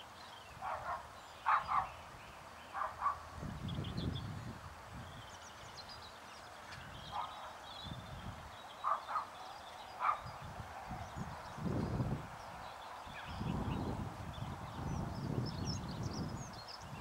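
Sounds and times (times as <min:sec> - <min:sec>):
bird calls: 0:00.0 - 0:04.4, 0:05.0 - 0:17.0.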